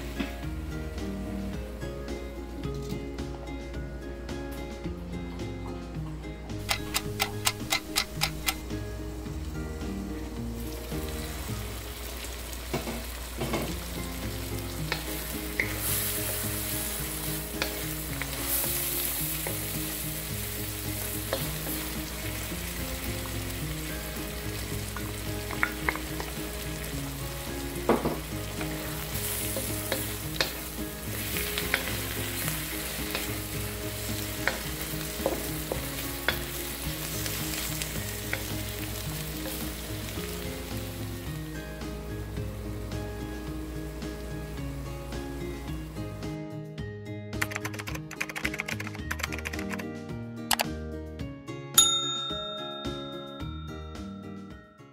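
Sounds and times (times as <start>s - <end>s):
mushrooms sizzling in a wok: 0.0s - 4.4s, 5.0s - 46.4s.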